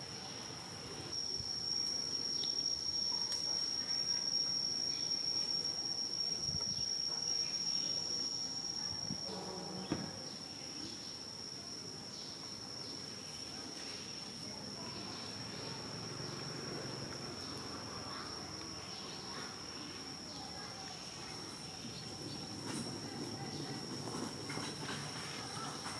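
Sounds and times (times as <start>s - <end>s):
high-pitched insect drone: 0.3s - 25.6s.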